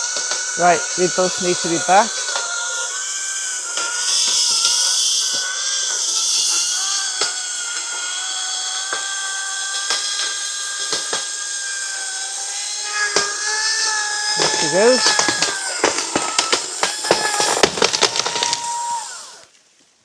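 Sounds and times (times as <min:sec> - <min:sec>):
chainsaw cutting wood: 0:00.0 - 0:19.8
timber cracking: 0:00.0 - 0:19.9.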